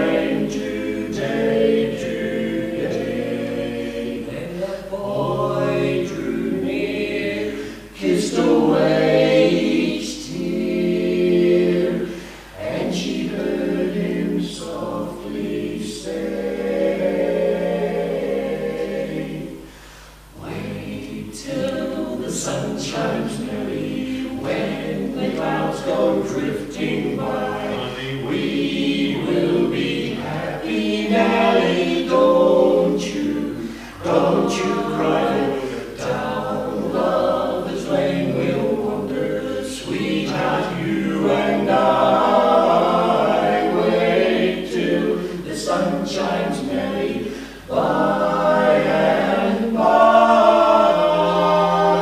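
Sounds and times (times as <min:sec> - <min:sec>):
male quartet singing a cappella: 0:00.0 - 0:52.0.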